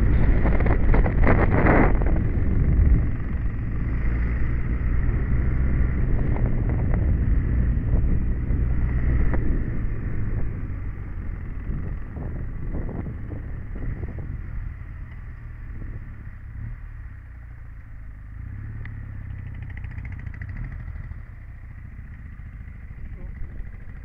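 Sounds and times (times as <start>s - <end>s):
motorcycle engine running at low revs: 0.0s - 24.0s.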